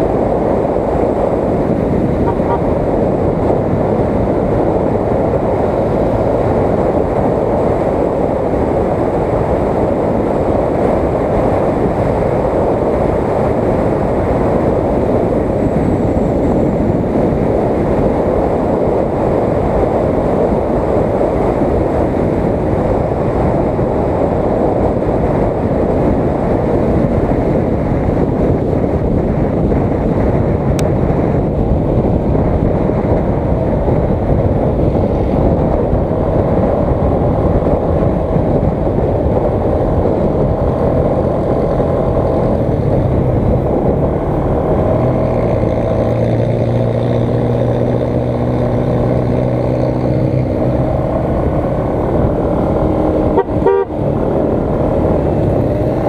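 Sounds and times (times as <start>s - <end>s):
motorcycle and road noise: 0.0s - 56.0s
wind rushing over microphone: 0.0s - 56.0s.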